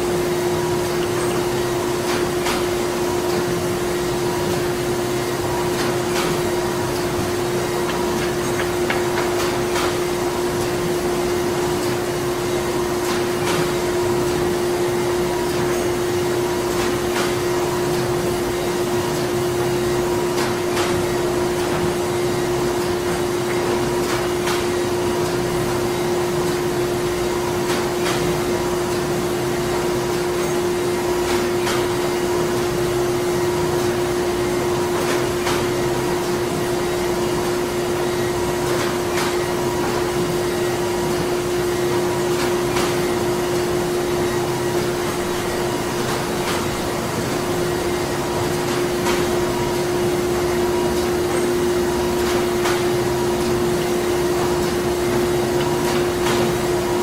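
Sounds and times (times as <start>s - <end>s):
printing machinery drone: 0.0s - 57.0s.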